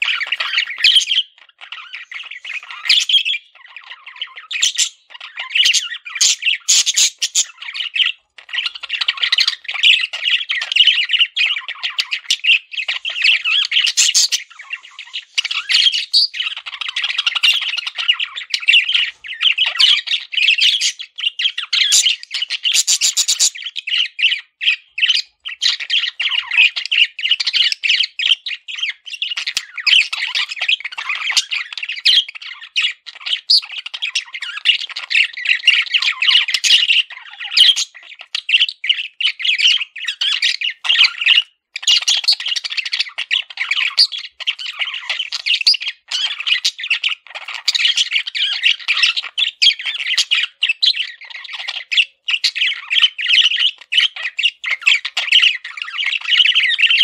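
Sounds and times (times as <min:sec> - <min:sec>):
budgerigars chattering: 0:00.0 - 0:57.0.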